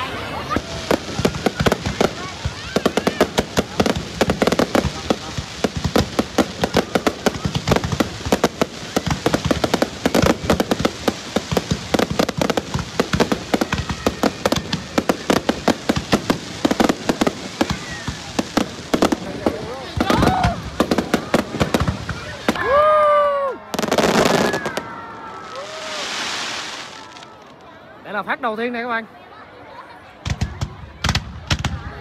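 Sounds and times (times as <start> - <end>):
fireworks bangs and crackles: 0.0 - 28.8, 30.0 - 32.0.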